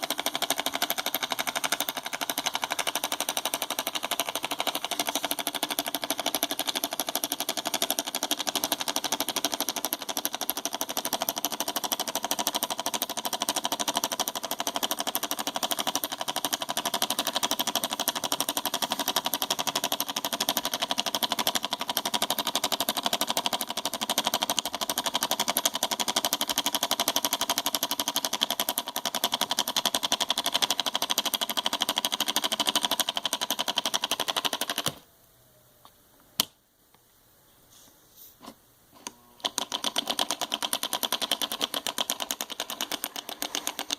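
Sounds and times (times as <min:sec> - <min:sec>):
small solenoid engine clicking rattle: 0:00.0 - 0:35.0, 0:39.4 - 0:43.9.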